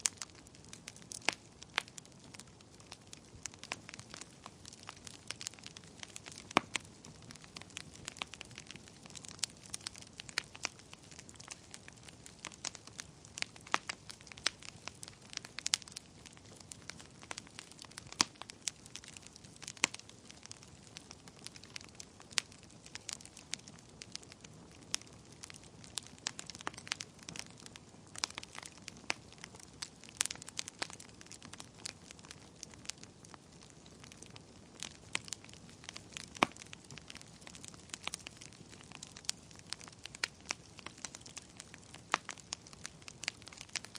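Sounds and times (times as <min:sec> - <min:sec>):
fire crackling: 0:00.0 - 0:43.9
fire popping and snapping: 0:00.0 - 0:43.9
soft fire hiss: 0:00.0 - 0:43.9.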